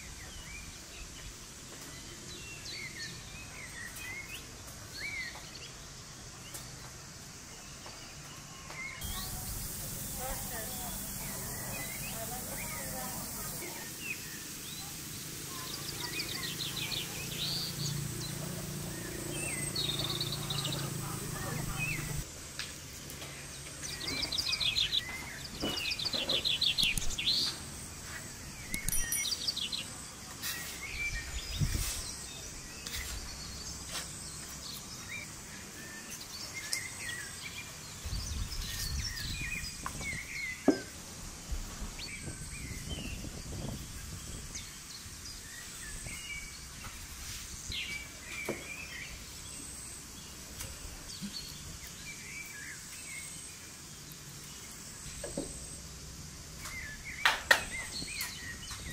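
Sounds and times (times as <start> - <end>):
small birds chirping: 0.0 - 58.9
steady outdoor hiss: 0.0 - 58.9.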